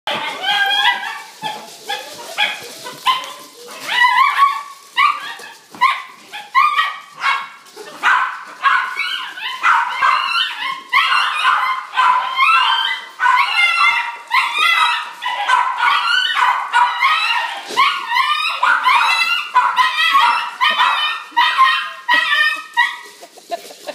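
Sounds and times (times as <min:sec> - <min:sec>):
puppies whining and yipping: 0:00.1 - 0:07.1, 0:08.0 - 0:23.9.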